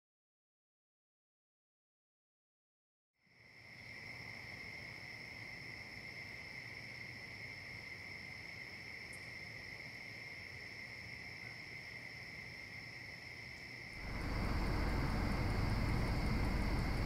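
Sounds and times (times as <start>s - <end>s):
crickets trilling: 3.2s - 17.0s.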